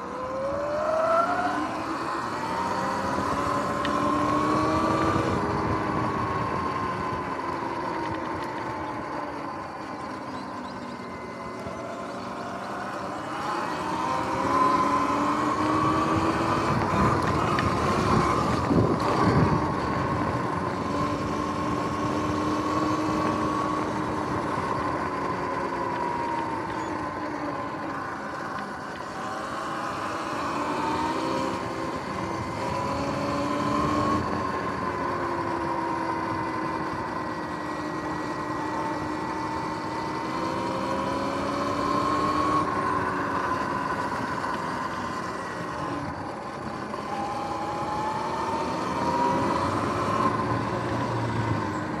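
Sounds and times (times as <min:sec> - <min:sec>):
electric motorbike motor whining: 0:00.0 - 0:52.0.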